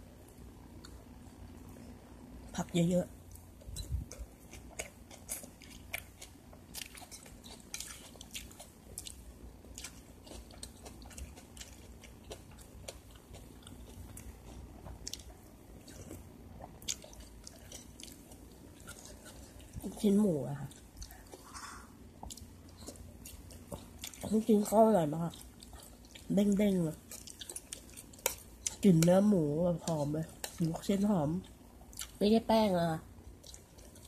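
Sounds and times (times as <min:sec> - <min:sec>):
close-up chewing: 0:03.2 - 0:32.2, 0:33.3 - 0:34.0.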